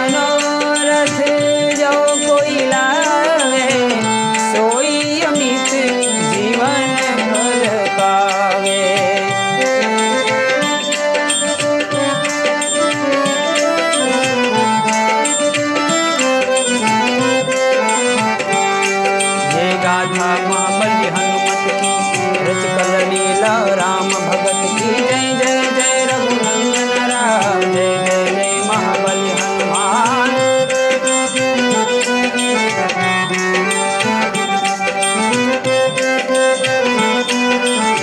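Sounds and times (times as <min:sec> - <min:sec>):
melodic instrument line: 0:00.0 - 0:38.0
tabla rhythm: 0:00.0 - 0:38.0.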